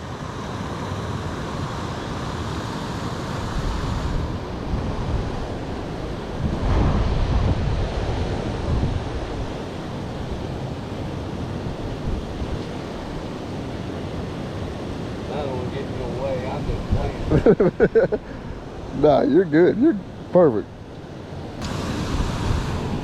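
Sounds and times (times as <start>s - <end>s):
wind buffeting microphone: 3.1s - 23.0s.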